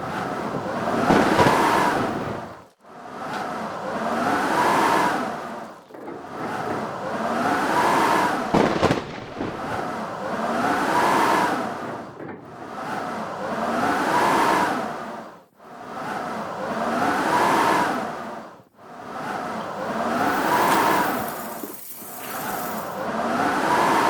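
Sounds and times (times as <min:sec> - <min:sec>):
howling blizzard wind gusts: 0:00.0 - 0:24.0.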